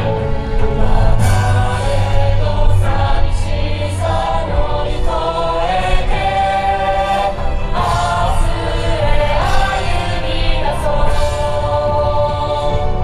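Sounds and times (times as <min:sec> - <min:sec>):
dance music with choir vocals: 0:00.0 - 0:13.0.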